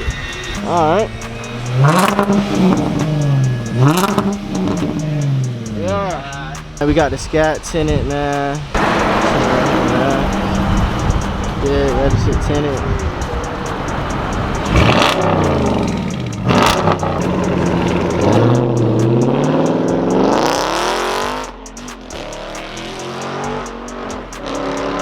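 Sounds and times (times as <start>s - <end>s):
car engine revving loudly: 0.0s - 25.0s.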